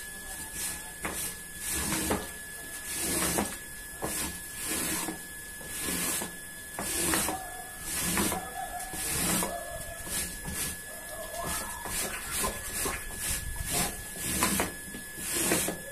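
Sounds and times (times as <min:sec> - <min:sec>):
faint high whine: 0:00.0 - 0:15.9.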